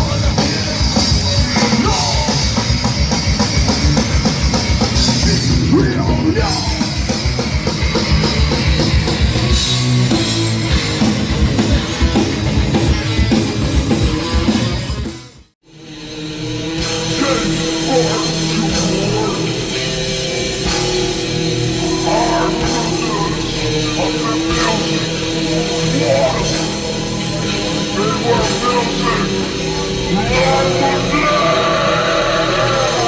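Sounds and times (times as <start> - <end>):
heavy rock music with singing: 0.0 - 33.0.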